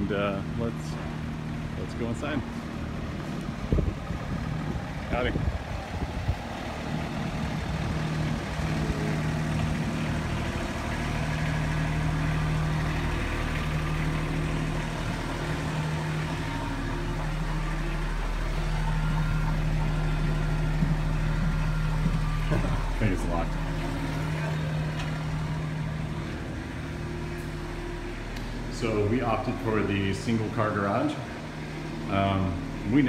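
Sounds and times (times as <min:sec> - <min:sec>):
loader engine idling: 0:00.0 - 0:33.0.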